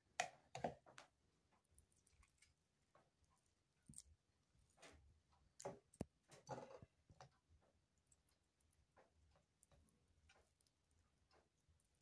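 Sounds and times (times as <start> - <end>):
soft wet sounds of hands: 0.8 - 12.0.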